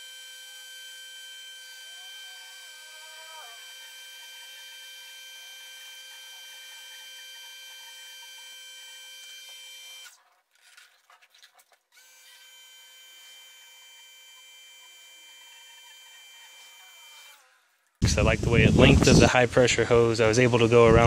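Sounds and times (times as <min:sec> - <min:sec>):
pressure washer motor whining: 0:00.0 - 0:10.2, 0:12.0 - 0:19.2.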